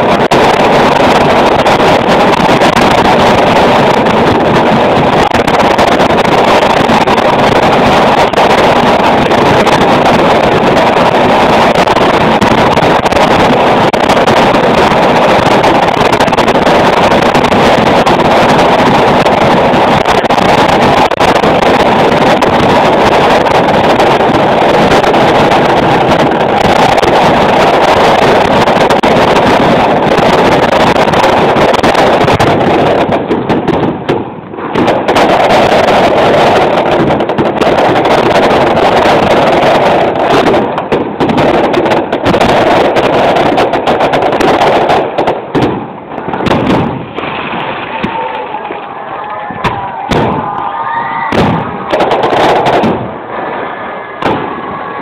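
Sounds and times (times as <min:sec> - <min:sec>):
fireworks exploding: 0:00.0 - 0:55.0.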